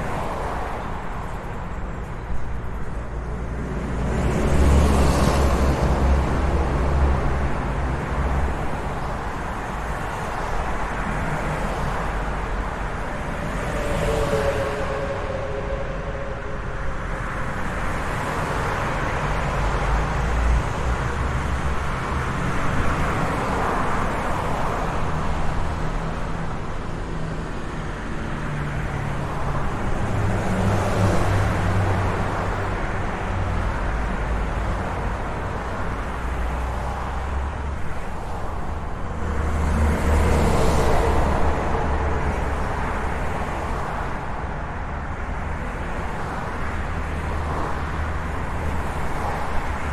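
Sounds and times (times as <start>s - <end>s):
road traffic: 0.0s - 49.9s
vehicles passing close by: 0.0s - 49.9s.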